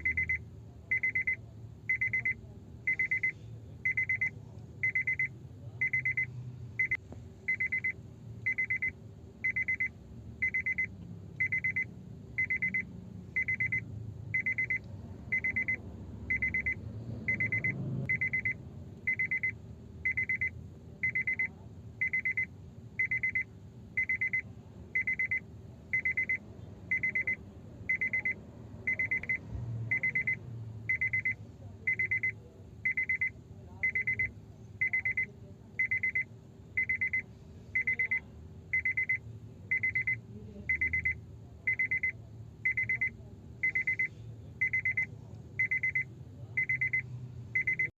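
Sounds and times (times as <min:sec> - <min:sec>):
car warning chime beeping: 0:00.0 - 0:47.9.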